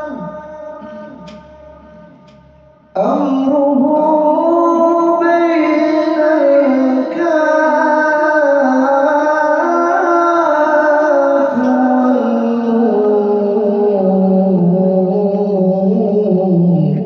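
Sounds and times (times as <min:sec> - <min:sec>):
person chanting long held notes: 0:00.0 - 0:17.0.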